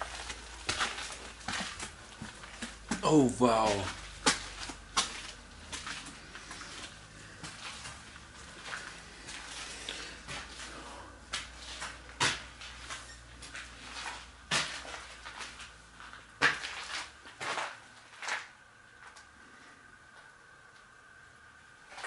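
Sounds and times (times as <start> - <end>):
sharp knocks and scuffs: 0.0 - 17.8.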